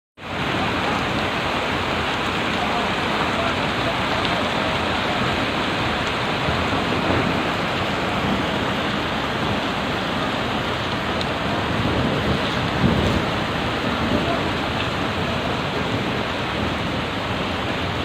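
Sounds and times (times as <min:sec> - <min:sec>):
floodwater rushing: 0:00.2 - 0:18.0.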